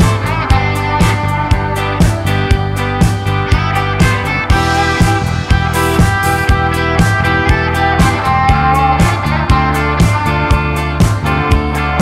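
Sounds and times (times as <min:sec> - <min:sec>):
music with sustained chords: 0:00.0 - 0:12.0
steady drum beat: 0:00.0 - 0:12.0.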